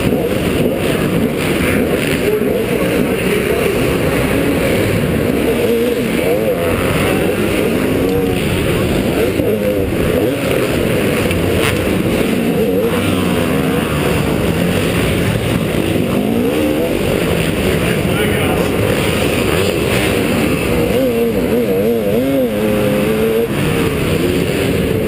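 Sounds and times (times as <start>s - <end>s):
motocross engine revving: 0.0s - 25.0s.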